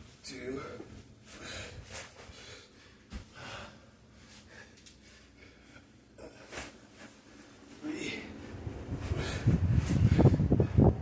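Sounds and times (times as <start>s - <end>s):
man breathing hard: 0.6s - 6.9s, 7.8s - 11.0s.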